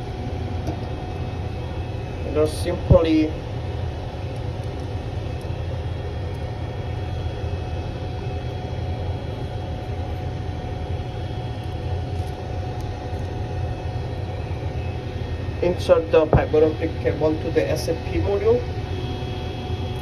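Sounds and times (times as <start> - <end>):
machine hum with faint whine: 0.0 - 20.0.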